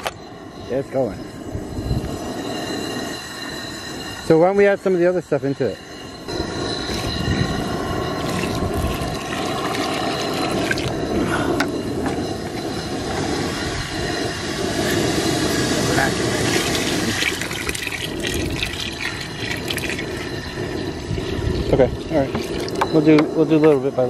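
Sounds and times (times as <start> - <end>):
gas burner rushing: 0.0 - 24.0
sap boiling in a pot: 1.5 - 23.6.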